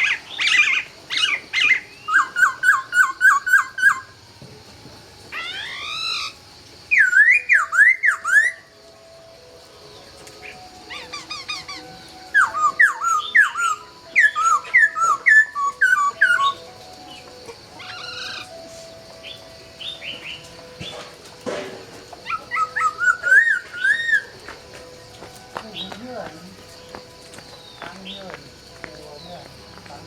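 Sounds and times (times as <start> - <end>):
bird singing rapid whistled notes: 0.0 - 4.2, 5.3 - 8.7, 10.0 - 18.6, 19.2 - 21.1, 22.2 - 24.5, 25.6 - 29.5.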